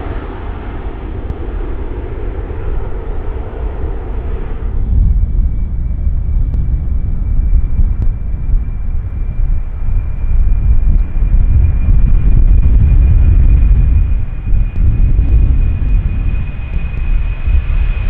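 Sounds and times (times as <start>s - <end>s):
high whine: 0.0s - 18.0s
jet engines rumbling: 0.0s - 18.0s.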